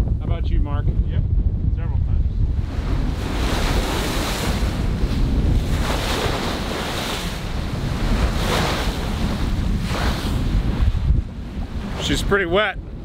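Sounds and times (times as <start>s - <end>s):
wind buffeting the microphone: 0.0s - 13.0s
water rushing along a hull: 2.2s - 13.0s.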